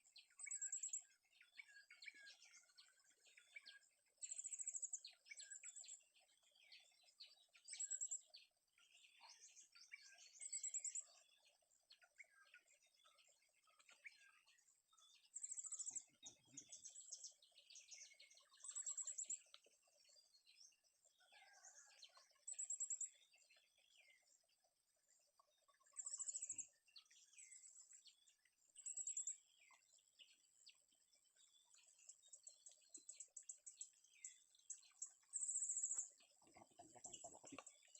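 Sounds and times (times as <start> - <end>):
faint birds chirping: 0.0 - 37.9.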